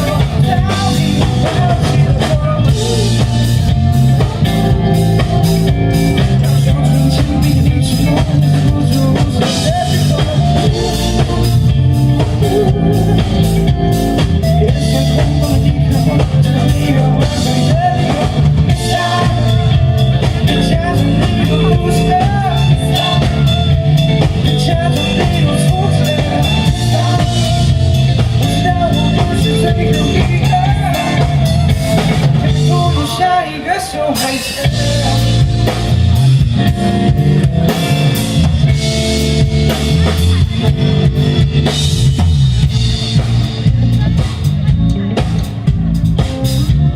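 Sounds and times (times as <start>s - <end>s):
rock band playing: 0.0s - 46.9s.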